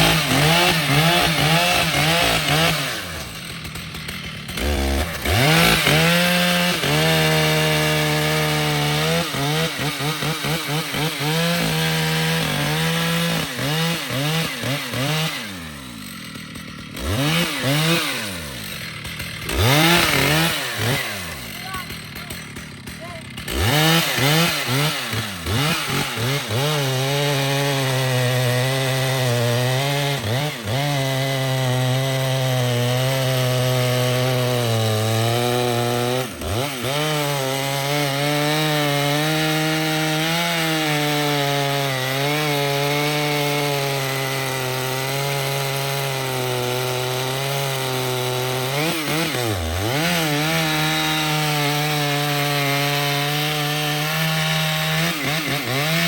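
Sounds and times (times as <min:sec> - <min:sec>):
chainsaw cutting tree trunk: 0:00.0 - 0:56.0.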